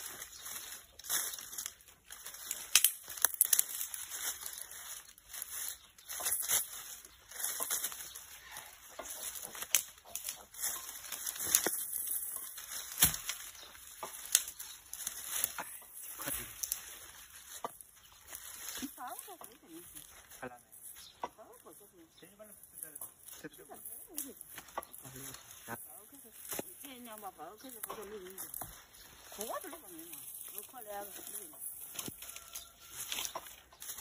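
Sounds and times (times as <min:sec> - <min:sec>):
twigs snapping: 0:00.0 - 0:20.4, 0:22.7 - 0:34.0
dry brushwood rustling and crackling: 0:00.0 - 0:34.0.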